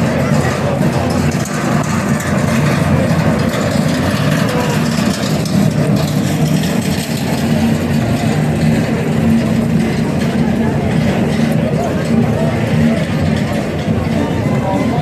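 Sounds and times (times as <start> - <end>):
low engine hum: 0.0 - 15.0
street crowd chatter: 0.0 - 15.0.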